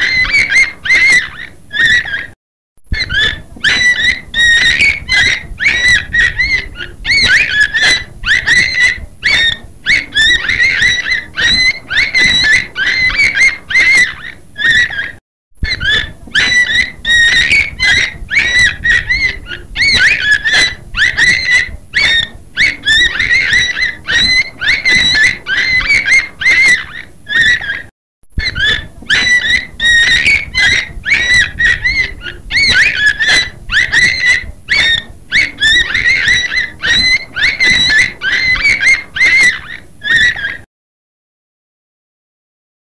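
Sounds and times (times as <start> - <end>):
beluga whale chirps and squeals: 0.0 - 40.7.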